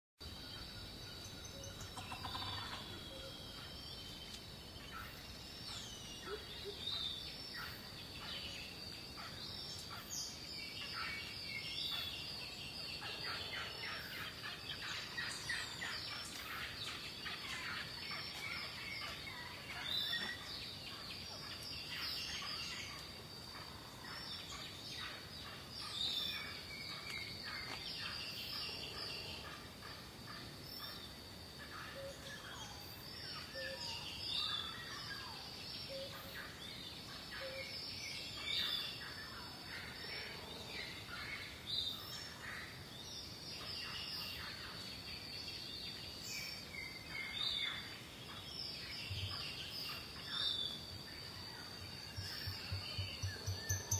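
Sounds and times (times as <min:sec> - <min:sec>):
birds chirping and calling: 0:00.6 - 0:45.0, 0:45.9 - 0:53.9.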